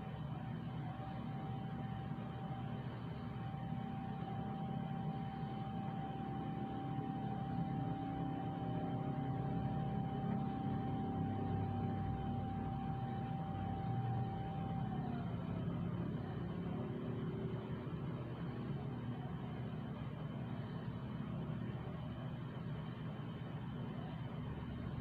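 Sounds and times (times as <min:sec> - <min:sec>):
mechanical hum with thin whine: 0:00.0 - 0:25.0.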